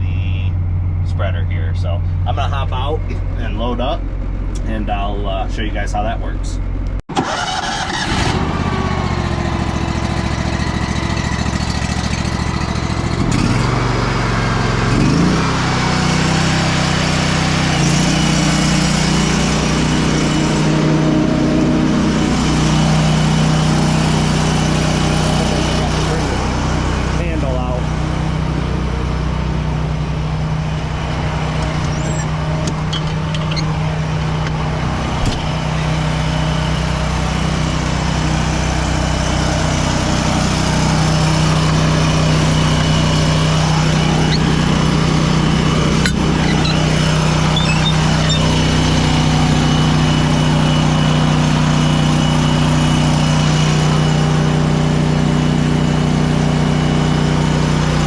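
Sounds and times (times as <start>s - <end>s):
farm machinery engine running: 6.6s - 58.0s.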